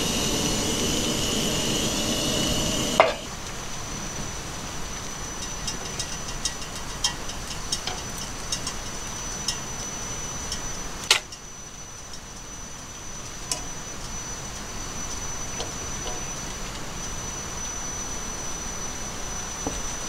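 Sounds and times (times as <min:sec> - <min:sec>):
background hiss: 0:00.0 - 0:20.0
faint high whine: 0:00.0 - 0:20.0.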